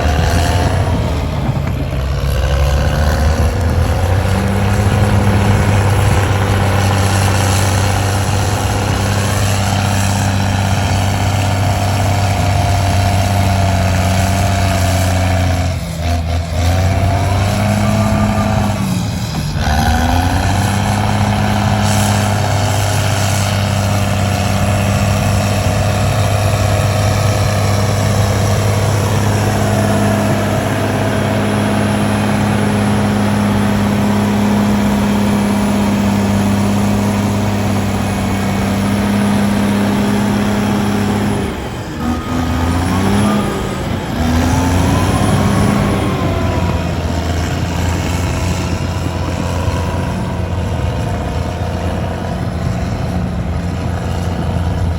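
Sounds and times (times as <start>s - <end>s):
heavy diesel engine revving: 0.0s - 54.9s.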